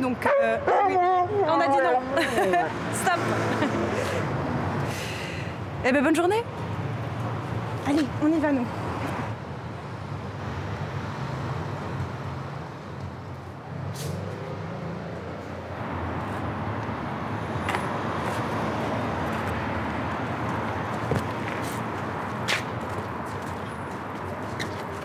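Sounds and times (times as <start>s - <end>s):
city street traffic: 0.0s - 25.0s.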